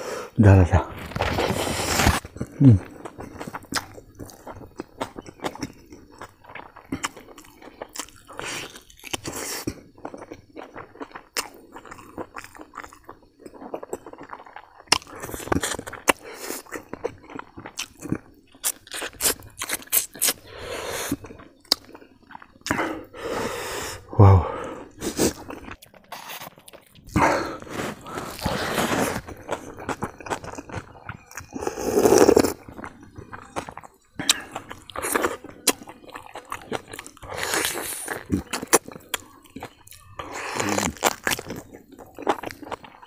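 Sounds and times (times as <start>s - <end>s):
man chewing food: 1.0s - 43.0s.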